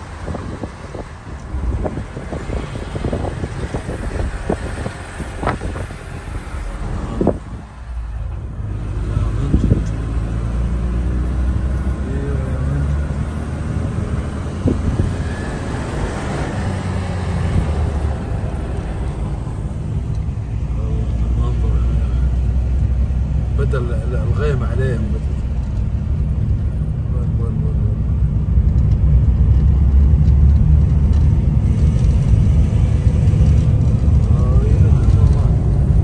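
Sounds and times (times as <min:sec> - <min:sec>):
engine and tyre rumble: 0:00.0 - 0:36.0.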